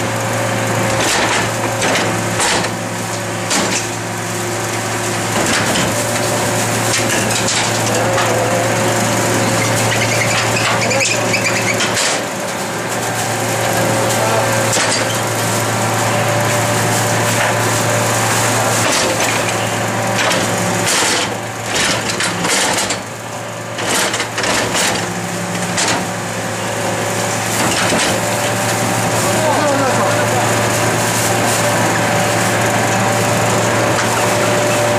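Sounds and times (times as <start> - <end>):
garbage truck engine hum: 0.0 - 34.9
rubbish crunching and clattering: 0.1 - 34.9.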